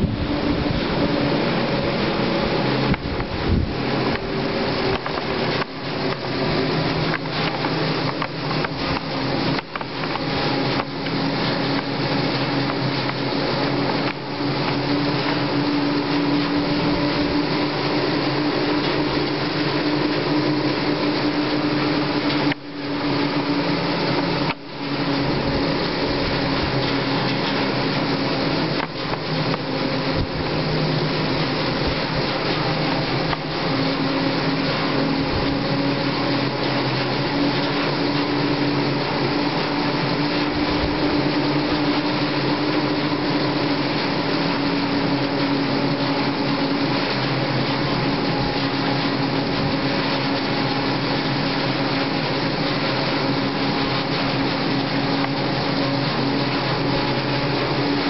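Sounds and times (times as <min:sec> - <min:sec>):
cable car ropes whirring: 0:00.0 - 0:58.0.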